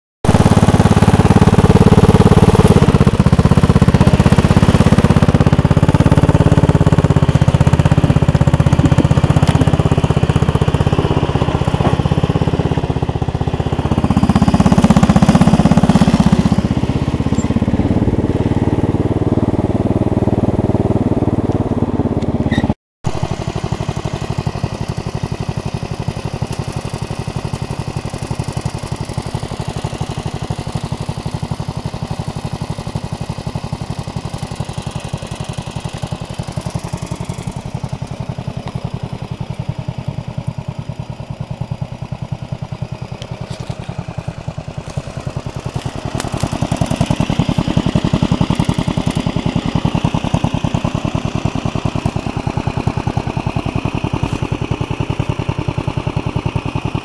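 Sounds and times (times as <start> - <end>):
garden tractor engine running: 0.2 - 57.0.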